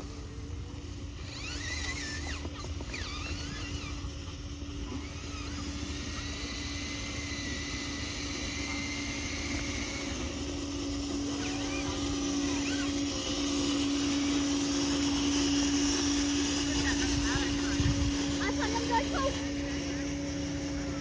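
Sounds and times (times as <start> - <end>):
small electric motor humming: 0.0 - 21.0.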